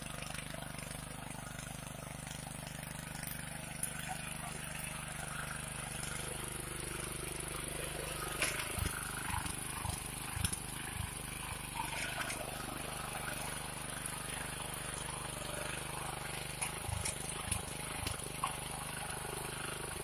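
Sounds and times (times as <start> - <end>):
tiller engine running under load: 0.0 - 20.0.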